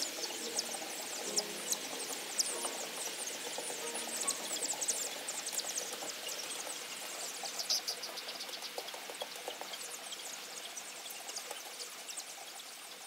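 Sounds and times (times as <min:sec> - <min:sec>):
chicks peeping: 0:00.0 - 0:12.4
steady hiss: 0:00.0 - 0:13.0.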